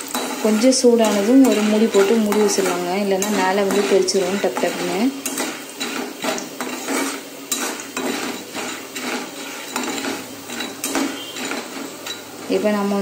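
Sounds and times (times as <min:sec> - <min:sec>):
spatula scraping kernels in metal pan: 0:00.0 - 0:13.0.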